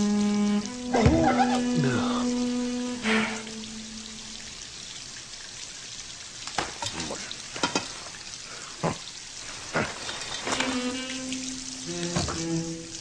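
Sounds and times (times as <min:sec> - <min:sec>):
water spraying: 0:00.0 - 0:13.0.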